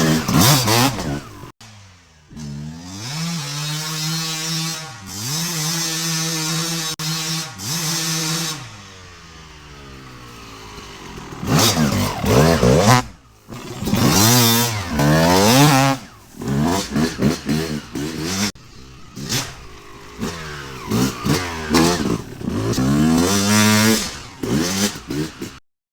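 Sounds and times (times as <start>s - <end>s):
motorcycle engine revving: 0.0s - 25.6s.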